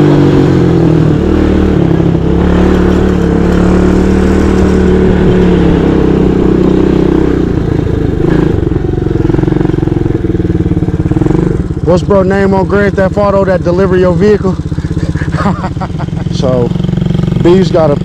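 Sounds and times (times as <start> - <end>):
mini bike engine running: 0.0 - 18.0.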